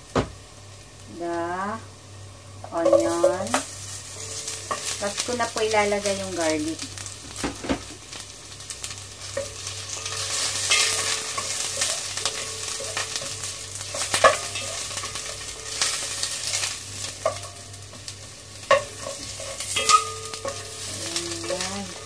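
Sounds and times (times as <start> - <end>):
ginger and onion sizzling in oil: 0.0 - 22.0.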